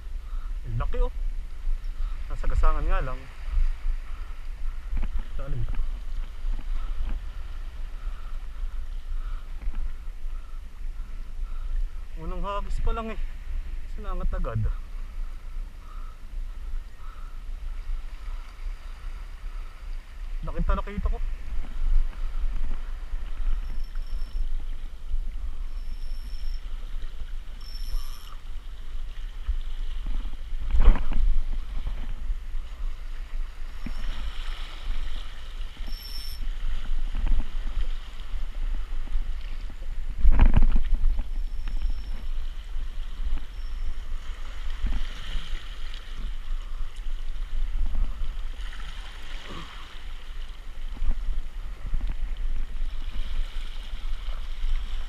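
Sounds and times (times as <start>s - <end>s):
wind rumbling on microphone: 0.0s - 55.0s.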